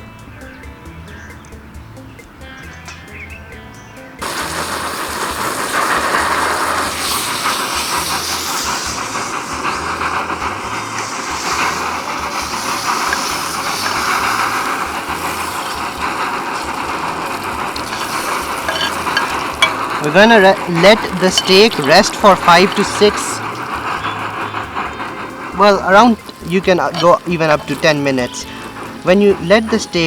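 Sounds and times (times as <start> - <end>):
steak sizzling in a pan: 4.2 - 30.0.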